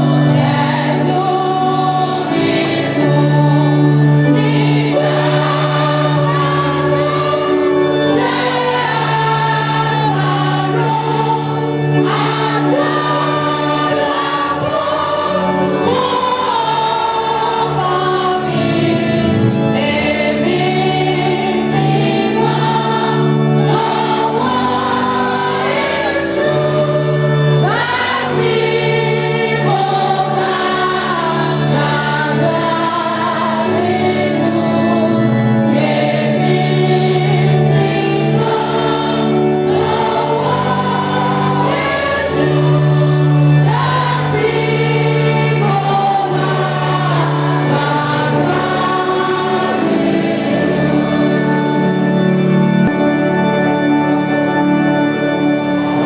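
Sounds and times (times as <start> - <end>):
choir singing a hymn: 0.0 - 56.0
instrumental accompaniment: 0.0 - 56.0.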